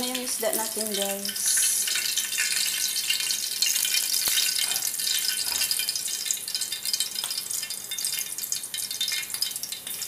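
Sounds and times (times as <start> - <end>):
fish frying in hot oil: 0.0 - 10.0.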